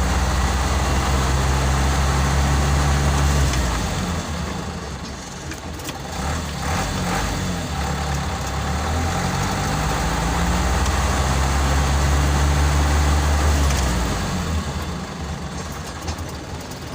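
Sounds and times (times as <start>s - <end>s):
vehicle engine rumbling: 0.0s - 16.9s.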